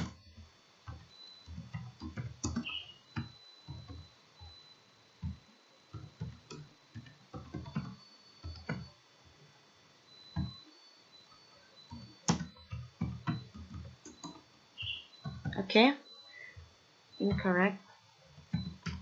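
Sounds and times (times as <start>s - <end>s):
computer keys typing: 0.0s - 9.0s, 10.0s - 17.7s, 18.3s - 19.0s.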